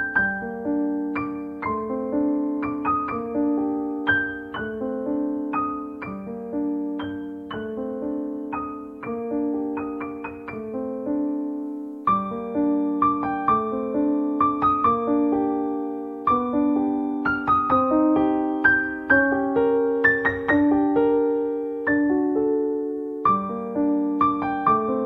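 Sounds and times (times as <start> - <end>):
solo piano music: 0.0 - 25.0.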